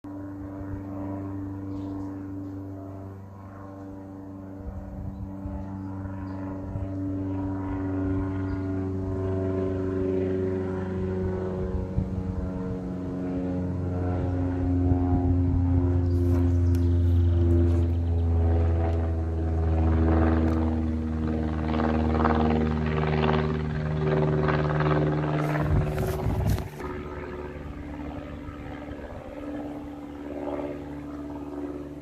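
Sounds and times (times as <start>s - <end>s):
propeller airplane engine droning: 0.0s - 32.0s.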